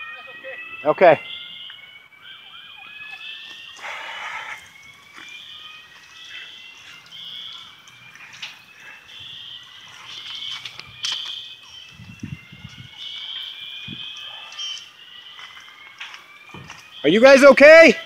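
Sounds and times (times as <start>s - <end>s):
pulsing electronic alarm tone: 0.0s - 18.0s
siren rising in pitch: 0.0s - 18.0s.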